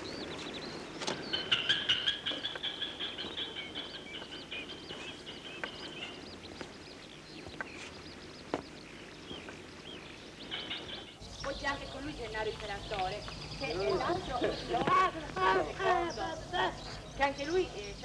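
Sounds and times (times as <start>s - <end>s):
birds chirping: 0.0s - 18.0s
high bird trill: 0.0s - 18.0s.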